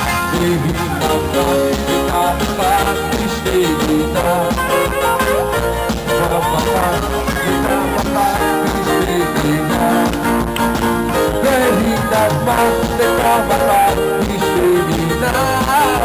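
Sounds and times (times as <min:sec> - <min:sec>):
loud music: 0:00.0 - 0:16.0.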